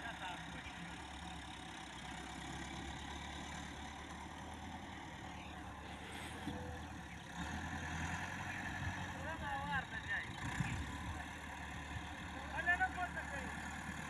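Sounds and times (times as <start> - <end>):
tractor engine humming: 0.0 - 14.0.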